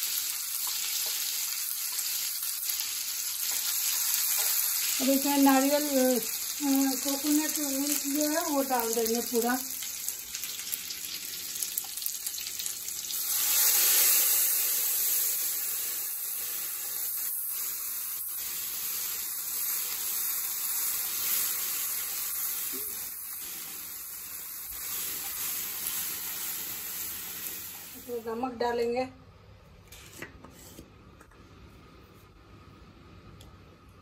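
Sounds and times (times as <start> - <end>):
liquid sizzling in hot oil: 0.0 - 28.3.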